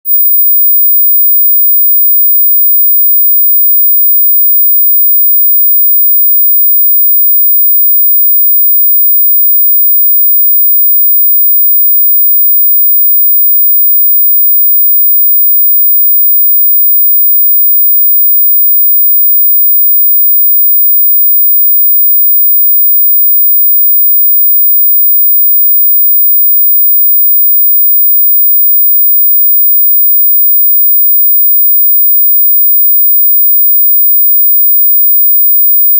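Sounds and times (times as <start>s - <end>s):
high-pitched dog whistle tone: 0.0s - 35.9s.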